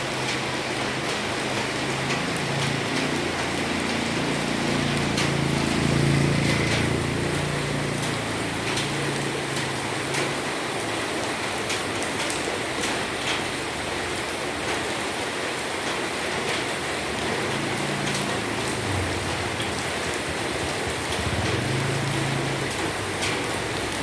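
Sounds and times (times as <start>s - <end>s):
raindrops ticking: 0.0s - 24.0s
steady rain falling: 0.0s - 24.0s.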